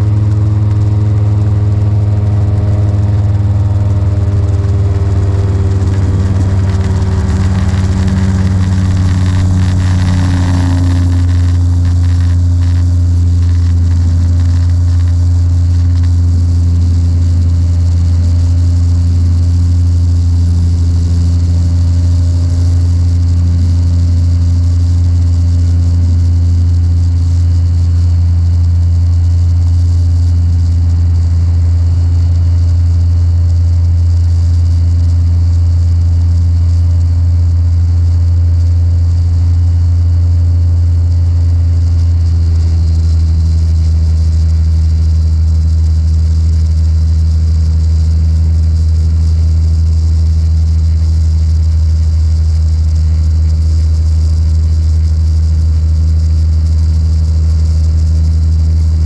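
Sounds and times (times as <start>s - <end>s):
engine and propeller drone: 0.0s - 59.0s.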